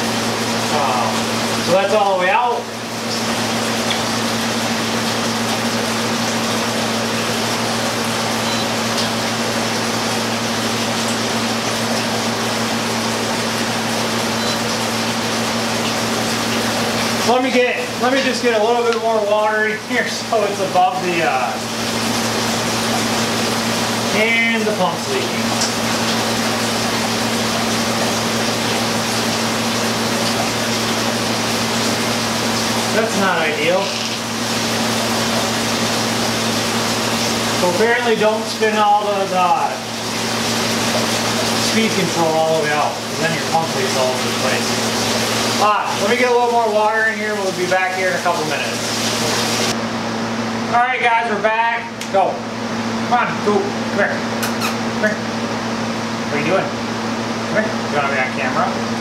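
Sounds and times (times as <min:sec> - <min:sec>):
rushing water: 0:00.0 - 0:49.8
pump running with low hum: 0:00.0 - 0:59.0.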